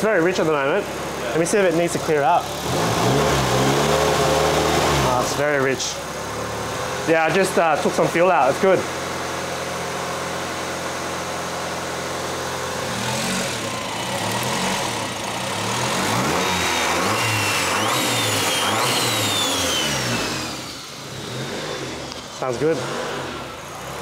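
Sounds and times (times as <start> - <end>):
car engine idling unevenly: 0.0 - 24.0.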